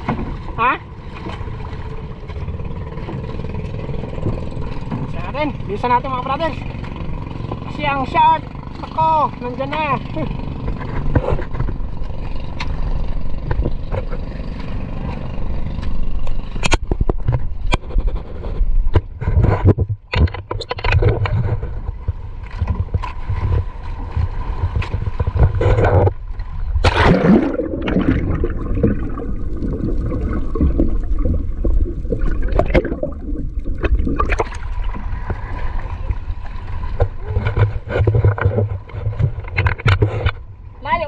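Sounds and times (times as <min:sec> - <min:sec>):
knocks and scrapes against boat: 0:00.0 - 0:26.9, 0:30.3 - 0:41.0
boat engine running: 0:00.0 - 0:41.0.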